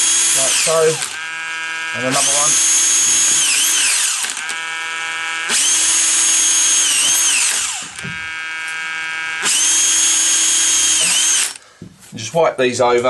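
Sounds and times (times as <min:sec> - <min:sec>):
power drill boring into wood: 0:00.0 - 0:11.7.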